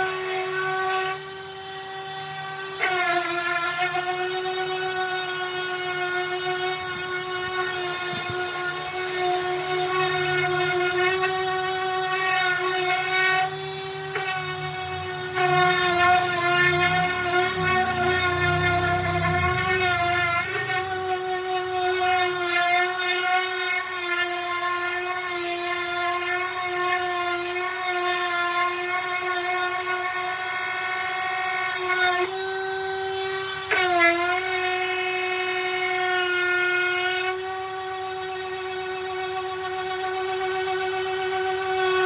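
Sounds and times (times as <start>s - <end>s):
power sander whining on wood: 0.0s - 42.0s.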